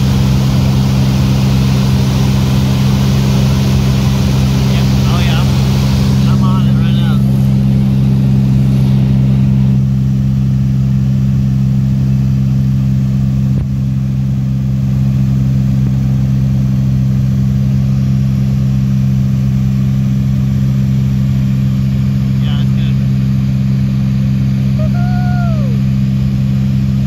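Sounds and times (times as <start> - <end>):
aircraft engine and propeller droning: 0.0 - 27.0.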